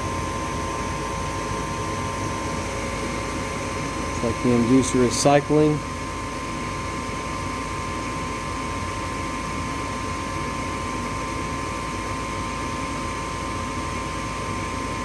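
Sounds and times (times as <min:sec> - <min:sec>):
furnace inducer motor humming: 0:00.0 - 0:15.0.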